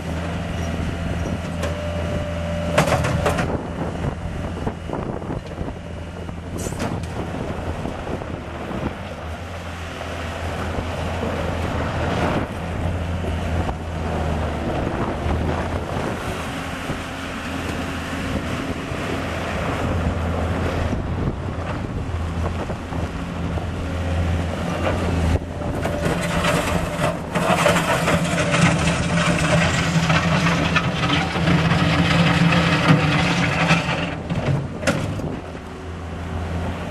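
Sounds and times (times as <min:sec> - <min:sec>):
skid steer diesel engine running: 0:00.0 - 0:36.9.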